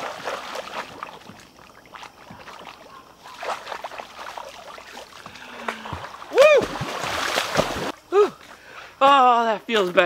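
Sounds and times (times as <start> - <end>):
water splashing and sloshing: 0.0 - 8.7.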